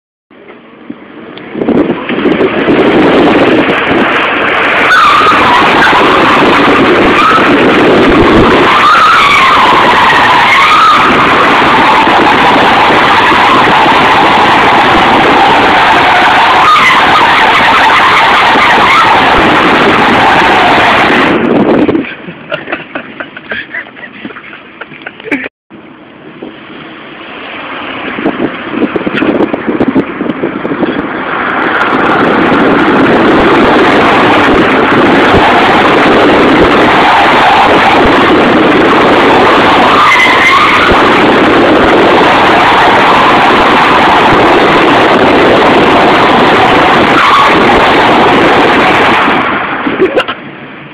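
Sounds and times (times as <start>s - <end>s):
car tyres squealing: 2.2s - 22.8s, 27.3s - 50.5s.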